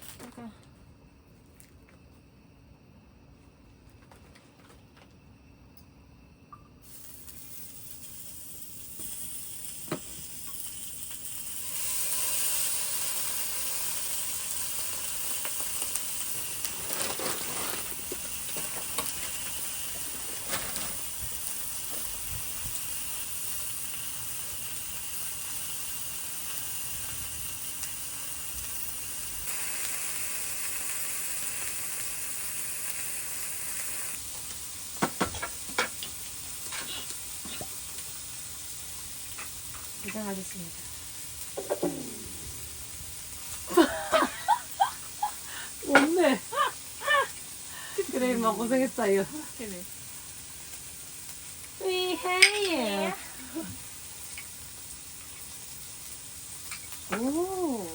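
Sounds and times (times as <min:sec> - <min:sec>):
food sizzling in a pan: 0:06.5 - 0:57.9.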